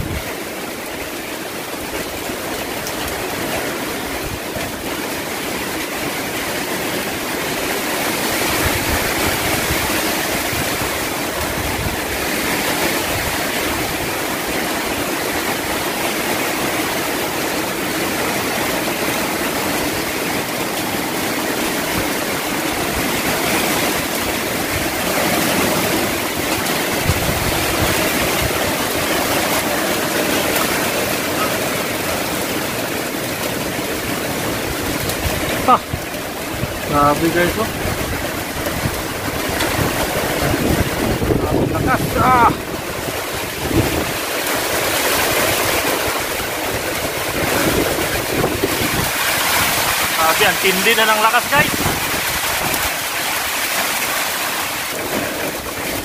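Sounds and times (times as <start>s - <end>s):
heavy rain hissing: 0.0s - 56.0s
wind gusts buffeting microphone: 0.0s - 56.0s.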